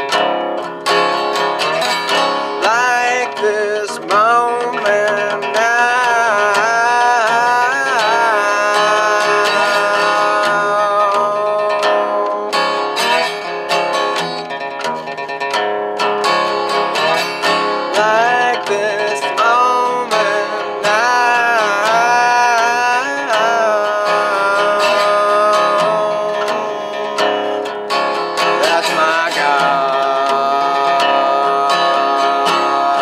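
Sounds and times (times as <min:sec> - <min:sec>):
resonator guitar picked blues: 0:00.0 - 0:33.0
man singing: 0:01.4 - 0:14.3, 0:16.7 - 0:33.0.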